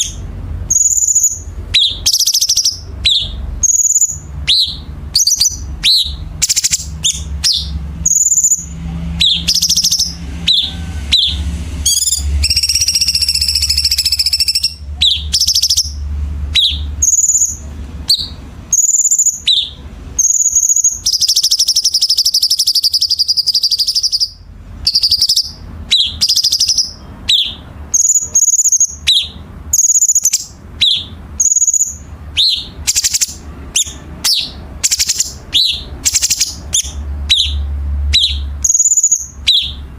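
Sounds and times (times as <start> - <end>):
low steady hum: 0.0 - 38.6
bird singing chirps and whistles: 0.0 - 39.9.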